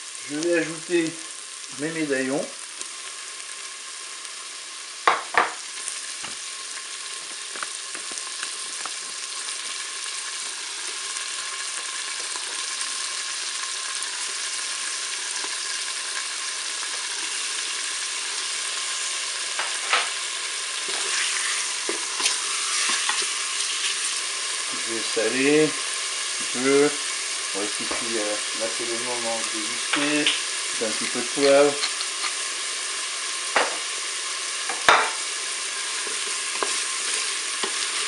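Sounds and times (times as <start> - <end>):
meat sizzling in butter: 0.0 - 38.0.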